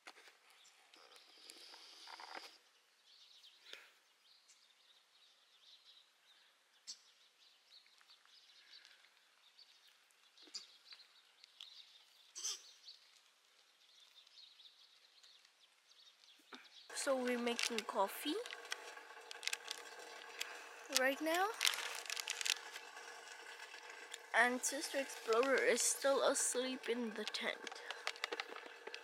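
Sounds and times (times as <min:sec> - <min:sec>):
distant birds chirping: 0:00.6 - 0:29.0.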